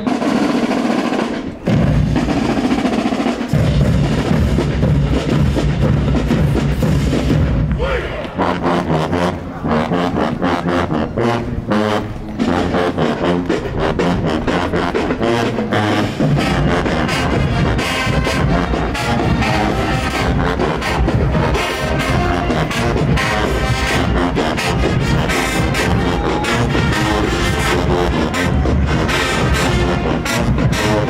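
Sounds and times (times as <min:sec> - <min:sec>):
steady drum beat: 0:00.0 - 0:08.2, 0:12.4 - 0:31.0
brass and sousaphones: 0:00.0 - 0:31.0.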